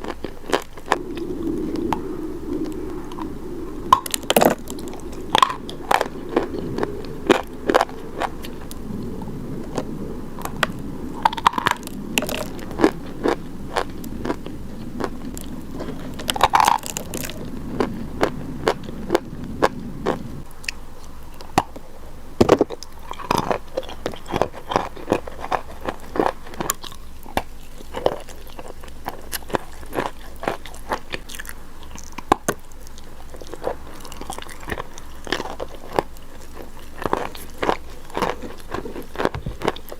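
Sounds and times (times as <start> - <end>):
biting and chewing crunchy chalk: 0.0 - 39.9.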